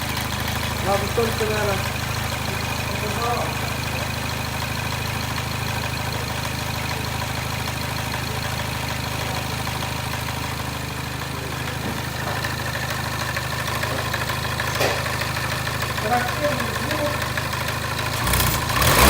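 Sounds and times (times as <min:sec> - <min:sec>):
car engine idling: 0:00.0 - 0:19.0
metallic engine noise: 0:00.0 - 0:19.0.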